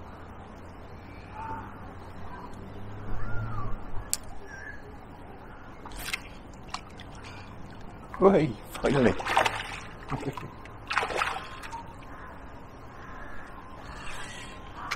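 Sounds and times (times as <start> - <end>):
birds calling: 0.0 - 14.9.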